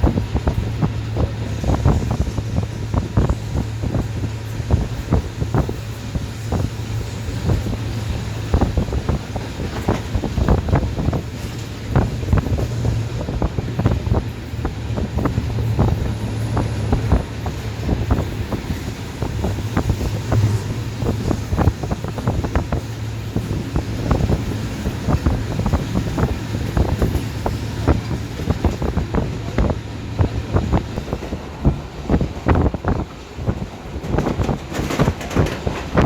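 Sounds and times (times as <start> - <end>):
train low hum: 0.0 - 36.0
wind buffeting microphone: 0.0 - 36.0.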